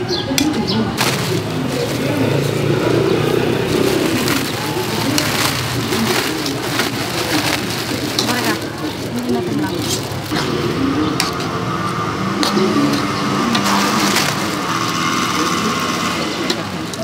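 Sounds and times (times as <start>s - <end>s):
people chattering: 0.0s - 17.0s.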